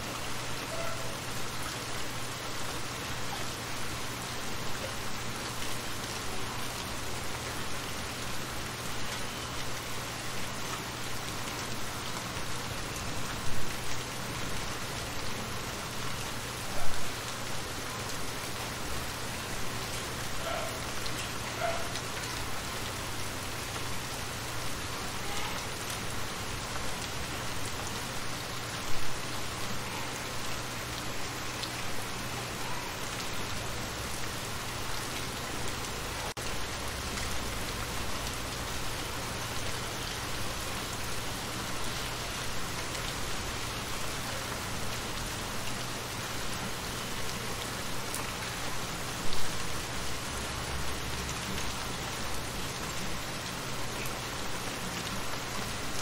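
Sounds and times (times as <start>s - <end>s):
rain falling into shallow water: 0.0s - 56.0s.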